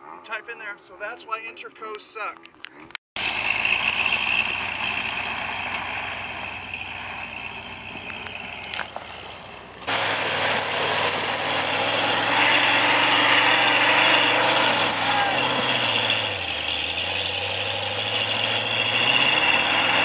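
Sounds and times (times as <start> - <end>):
buggy engine running hard: 3.2 - 20.0
tyres spinning in loose dirt: 3.2 - 20.0.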